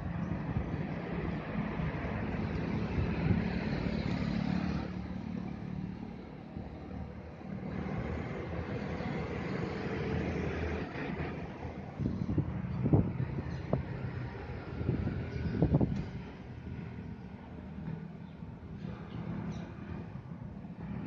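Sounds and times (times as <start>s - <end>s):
passing vehicle engines: 0.0s - 21.0s.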